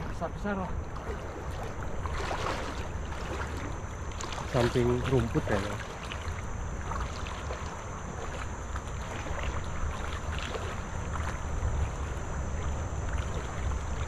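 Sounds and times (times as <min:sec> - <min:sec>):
legs wading through shallow water: 0:00.0 - 0:14.0
wind rumbling on microphone: 0:00.0 - 0:14.0.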